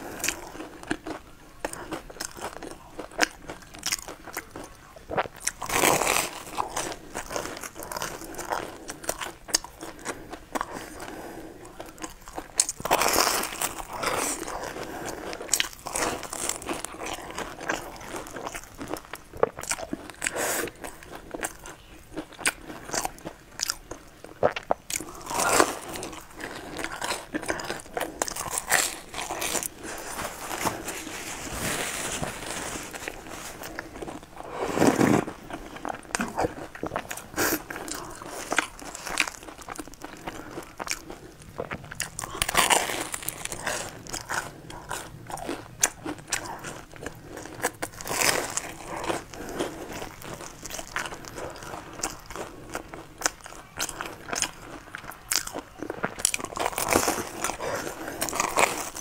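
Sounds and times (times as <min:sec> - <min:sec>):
chewing crunchy bread: 0:00.0 - 0:59.0.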